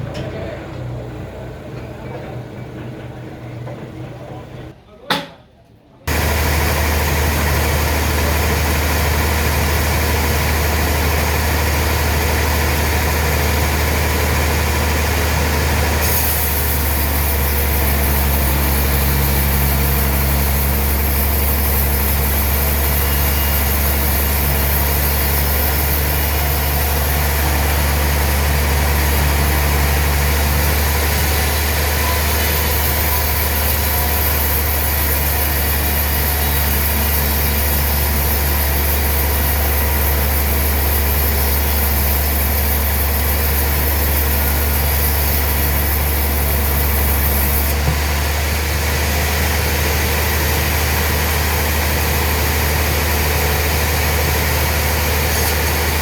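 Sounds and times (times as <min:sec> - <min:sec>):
sawmill engine drone: 0:06.1 - 0:56.0.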